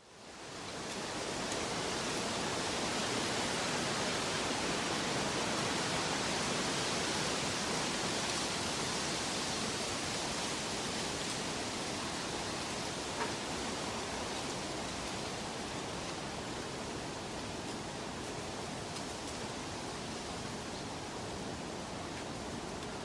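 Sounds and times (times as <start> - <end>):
steady rushing hiss: 0.0 - 23.0.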